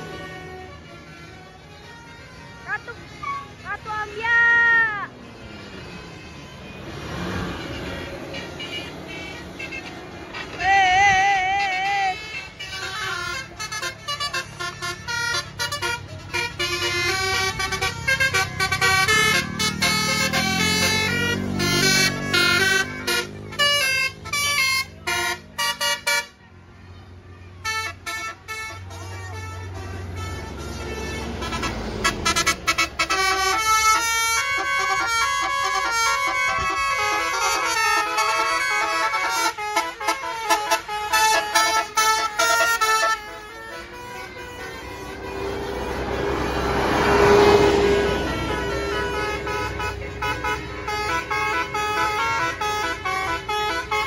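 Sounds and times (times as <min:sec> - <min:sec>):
low engine rumble: 0:04.9 - 0:54.0
bus horn playing quick tune: 0:06.8 - 0:26.4, 0:27.6 - 0:54.0.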